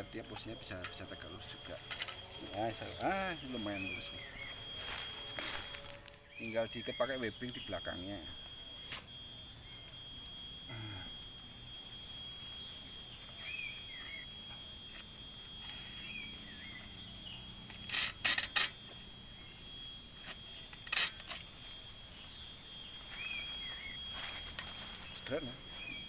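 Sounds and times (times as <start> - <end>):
high-pitched whine: 0.0 - 26.0.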